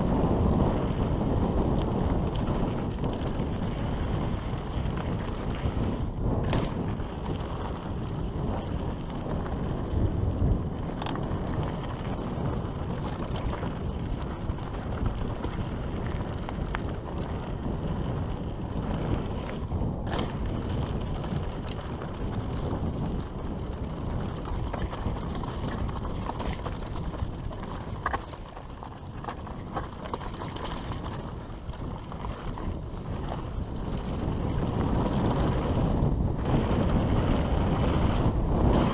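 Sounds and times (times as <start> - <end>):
bike rattling over bumps: 0.0 - 38.9
tyres rolling over dirt and gravel: 0.0 - 38.9.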